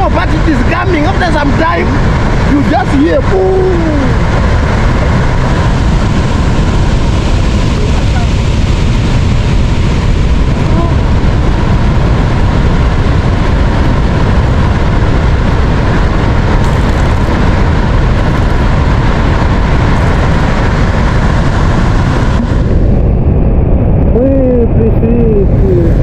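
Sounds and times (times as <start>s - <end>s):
waterfall roaring: 0.0s - 22.9s.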